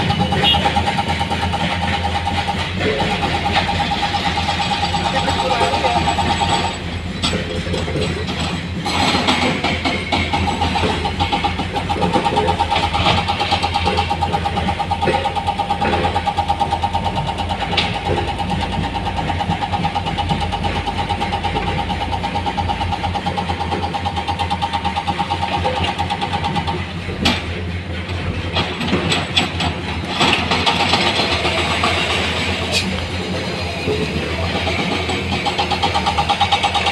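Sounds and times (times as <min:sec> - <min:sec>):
constant whine: 0:00.0 - 0:36.9
heavy diesel engine running: 0:00.0 - 0:36.9.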